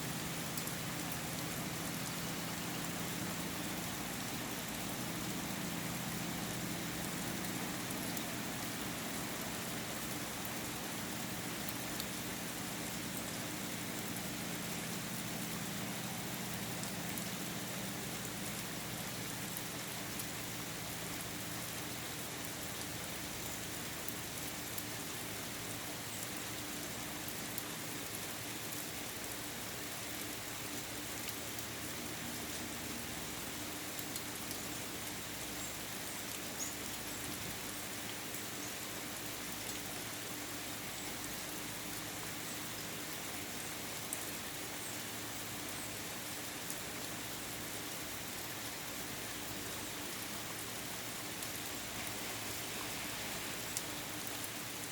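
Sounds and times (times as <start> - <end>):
raindrops ticking on surfaces: 0.0 - 54.9
steady rain falling: 0.0 - 54.9.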